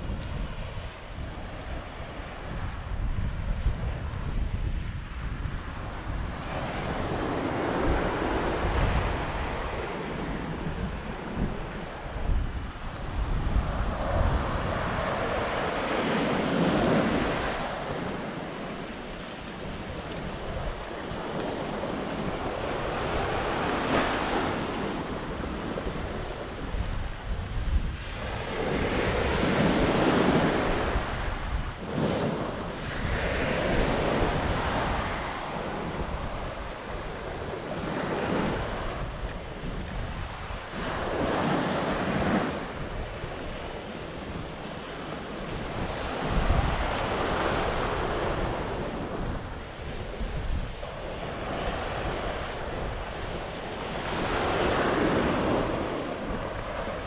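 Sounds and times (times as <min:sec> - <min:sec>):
sea waves breaking on beach: 0:00.0 - 0:57.0
wind rumbling on microphone: 0:00.0 - 0:57.0.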